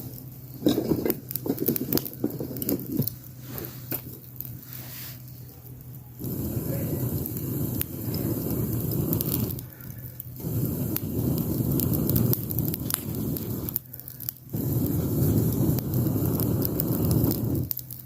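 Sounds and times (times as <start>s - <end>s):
low rushing fire noise: 0.0s - 18.0s
wood fire crackling and popping: 0.0s - 18.0s.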